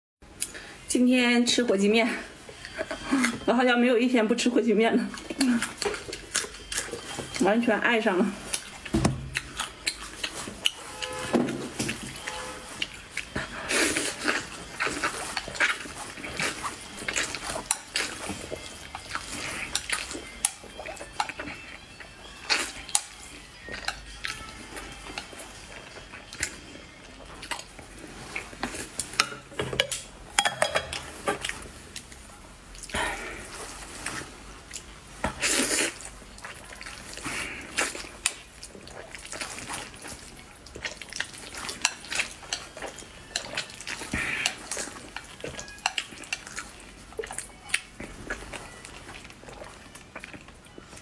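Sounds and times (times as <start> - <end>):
mouth eating sounds: 2.5 - 3.5, 5.0 - 7.4, 8.3 - 30.0, 30.9 - 51.0.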